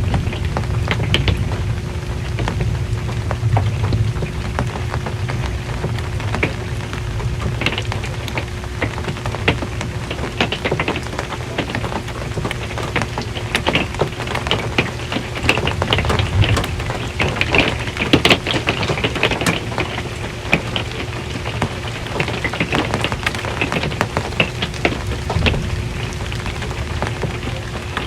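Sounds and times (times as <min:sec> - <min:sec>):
rain on metal roof: 0:00.0 - 0:28.0.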